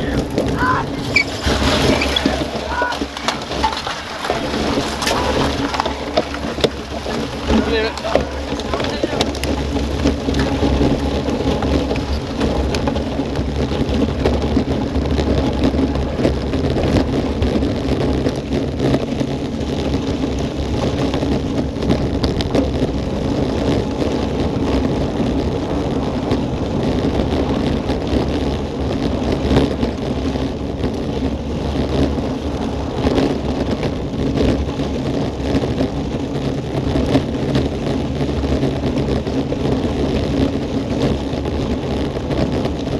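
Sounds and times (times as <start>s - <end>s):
bicycle tyres rolling over gravel: 0.0s - 42.9s
wind rushing over microphone: 0.0s - 42.9s.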